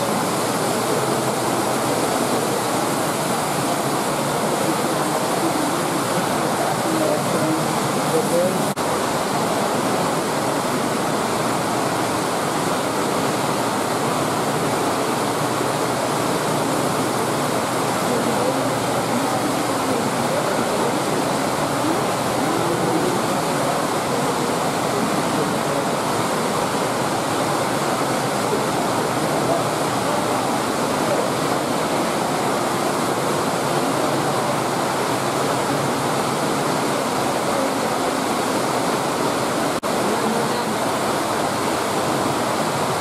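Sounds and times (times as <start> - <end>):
water churning in fish tank: 0.0 - 43.0.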